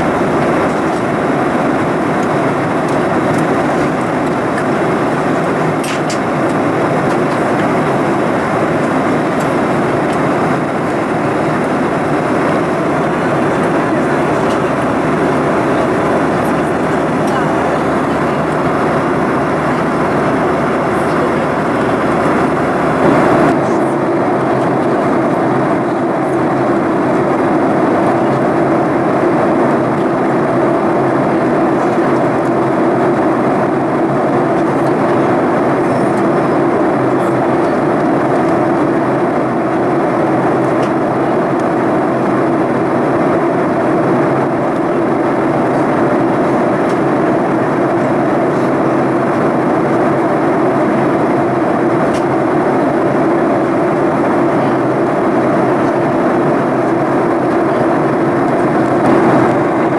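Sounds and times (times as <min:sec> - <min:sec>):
airflow rush in plane cabin: 0:00.0 - 0:59.9
jet engine noise: 0:00.0 - 0:59.9
steady hum: 0:00.0 - 0:59.9.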